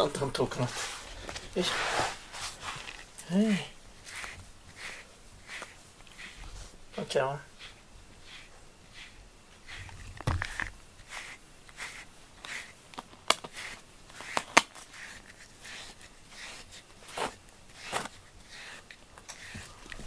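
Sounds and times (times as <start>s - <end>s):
brush stroking through fur: 0.1s - 12.8s, 13.5s - 20.0s.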